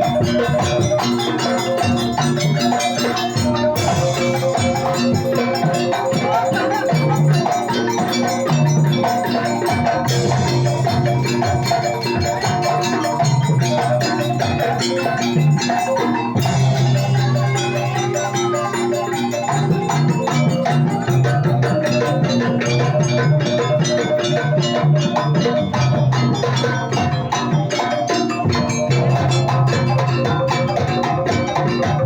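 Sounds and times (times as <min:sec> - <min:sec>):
hand drumming: 0:00.0 - 0:32.0
metal mallet instruments and gongs: 0:00.0 - 0:32.0.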